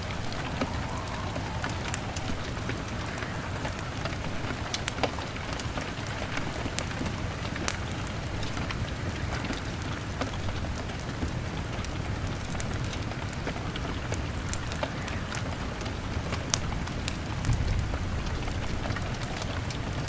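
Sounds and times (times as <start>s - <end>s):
log fire crackling: 0.0s - 20.0s
rain pattering on a window: 0.0s - 20.0s.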